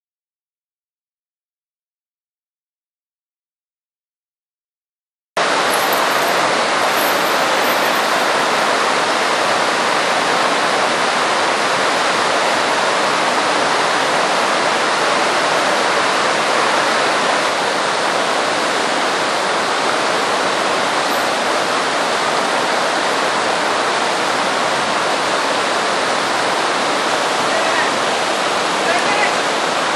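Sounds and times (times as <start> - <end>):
river water rushing over rapids: 5.4 - 29.9.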